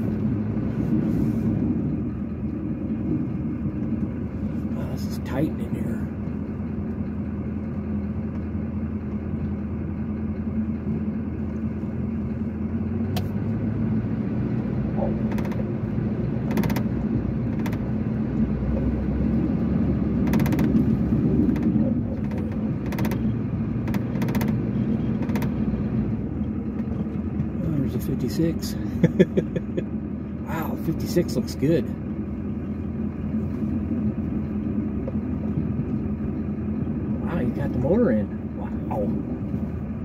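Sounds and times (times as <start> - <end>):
vehicle engine rumbling: 0.0 - 40.0.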